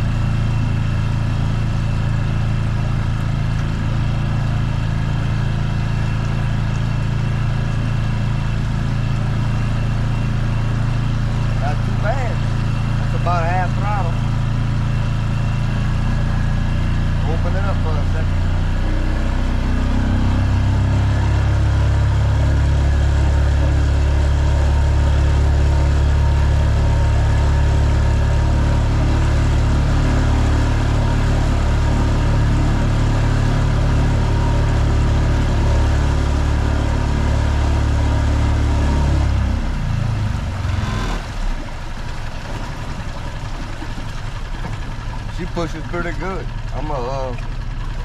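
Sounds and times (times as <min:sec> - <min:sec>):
outboard motor running: 0:00.0 - 0:48.0.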